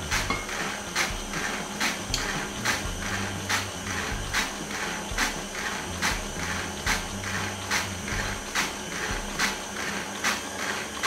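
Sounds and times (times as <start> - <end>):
stand mixer motor hum: 0.0 - 11.0.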